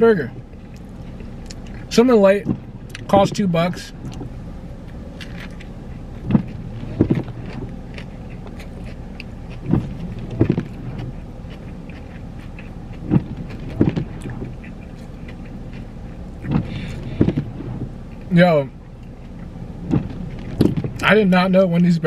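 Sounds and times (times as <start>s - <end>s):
car interior hum: 0.0s - 22.0s
person chewing: 0.5s - 1.9s, 4.0s - 21.0s.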